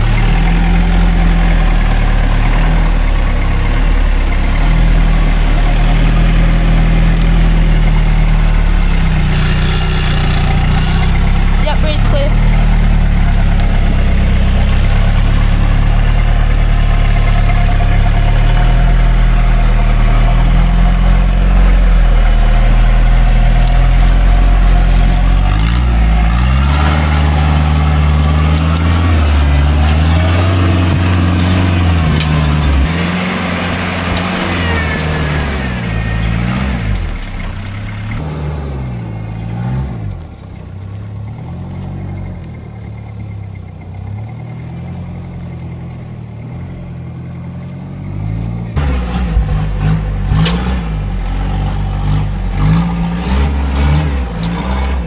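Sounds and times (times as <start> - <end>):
truck engine revving on rocks: 0.0 - 55.0.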